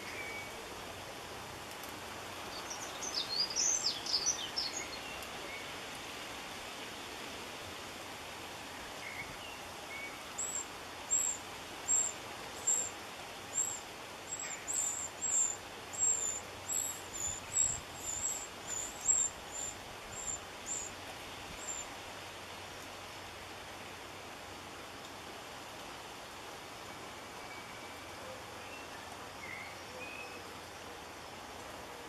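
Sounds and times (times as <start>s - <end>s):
steady outdoor hiss: 0.0s - 32.0s.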